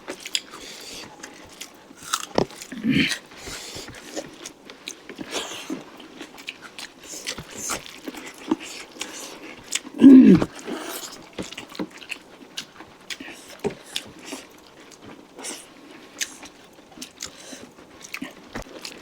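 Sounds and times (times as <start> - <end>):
wet chewing: 0.0 - 19.0.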